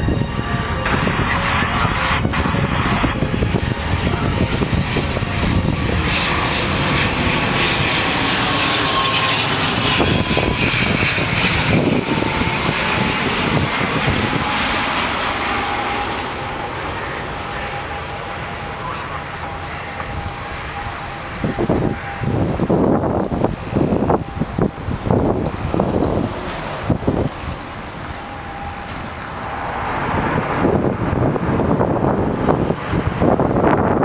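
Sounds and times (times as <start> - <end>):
turboprop airliner passing: 0.0 - 34.0.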